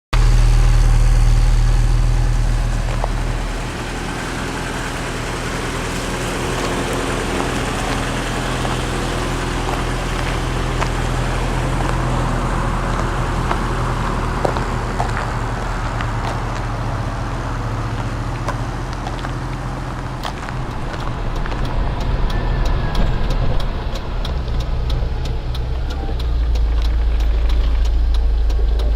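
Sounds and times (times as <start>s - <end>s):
van engine humming: 0.1s - 28.9s.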